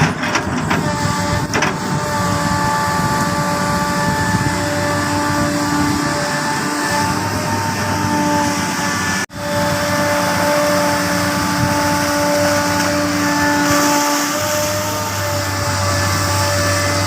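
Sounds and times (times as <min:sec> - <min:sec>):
diesel engine running: 0:00.0 - 0:17.0
steady whine: 0:00.0 - 0:17.0.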